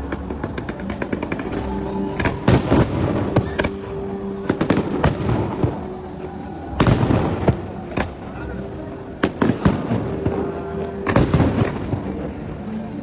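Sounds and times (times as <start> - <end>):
fireworks bursting with bangs and crackles: 0.0 - 13.0.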